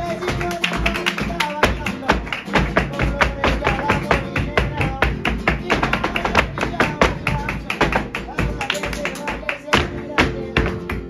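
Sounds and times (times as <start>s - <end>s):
dancers' footwork strikes: 0.0s - 11.0s
handclaps: 0.0s - 11.0s.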